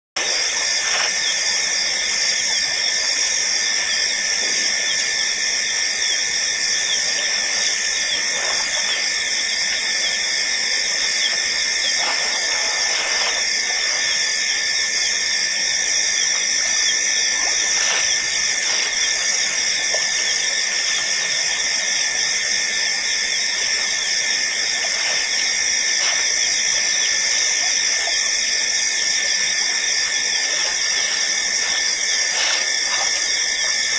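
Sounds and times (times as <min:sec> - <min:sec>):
night insects trilling: 0:00.2 - 0:33.9.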